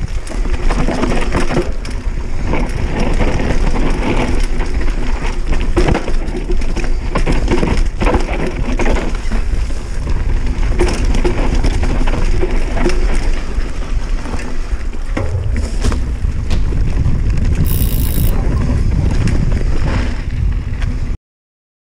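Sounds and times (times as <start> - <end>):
wind rumble on microphone: 0.0 - 21.2.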